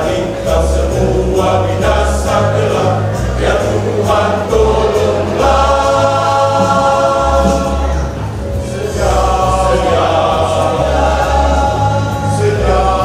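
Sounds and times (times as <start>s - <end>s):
choir singing a hymn: 0.0s - 13.0s
sustained low bass notes: 0.0s - 13.0s.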